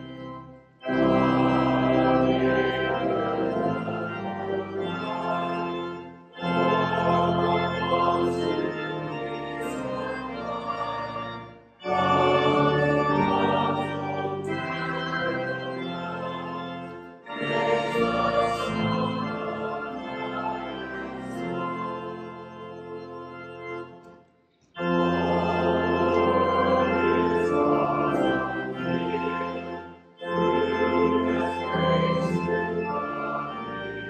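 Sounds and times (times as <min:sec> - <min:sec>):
choir and congregation singing: 0:00.0 - 0:22.8, 0:23.9 - 0:34.0
organ playing a hymn: 0:00.0 - 0:34.0.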